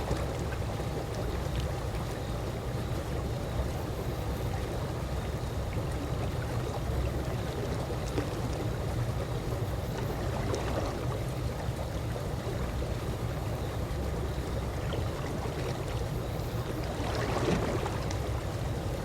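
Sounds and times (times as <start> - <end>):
pool water lapping: 0.0 - 19.0
small water splashes: 0.0 - 19.0.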